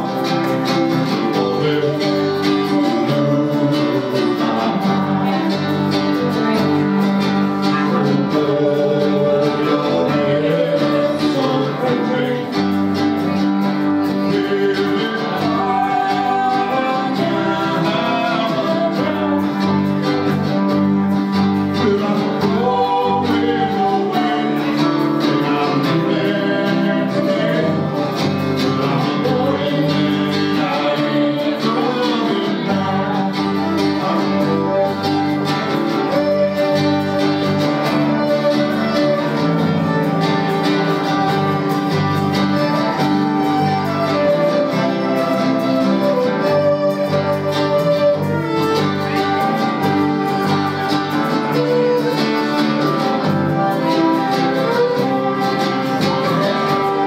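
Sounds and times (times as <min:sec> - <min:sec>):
acoustic guitar: 0:00.0 - 0:57.0
electric guitar: 0:00.0 - 0:57.0
fiddle: 0:00.0 - 0:57.0.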